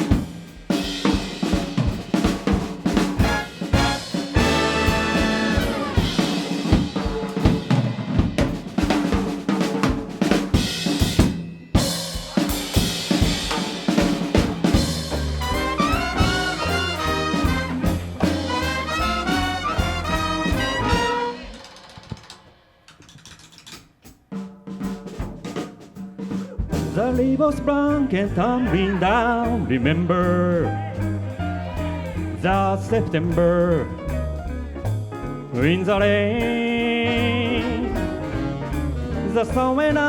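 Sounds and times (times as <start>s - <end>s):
jazz big band playing: 0.0s - 22.2s, 24.6s - 40.0s.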